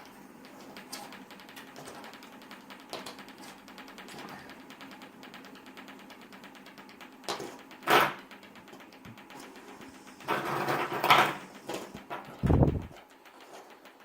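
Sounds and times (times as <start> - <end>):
faint rapid ticking: 0.0 - 14.0
clatter: 0.5 - 14.0.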